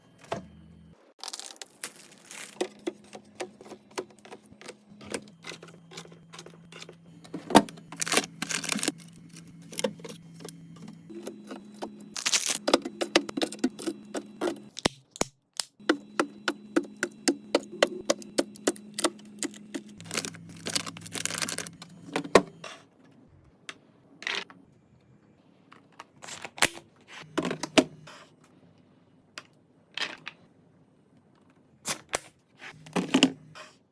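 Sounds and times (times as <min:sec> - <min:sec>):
low steady fridge hum: 0:00.0 - 0:14.9, 0:15.8 - 0:33.9.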